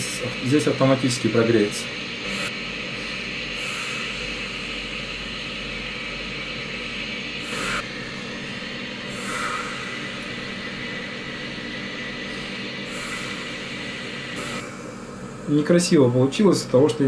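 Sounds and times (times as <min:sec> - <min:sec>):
torch flame hissing: 0:00.0 - 0:16.9.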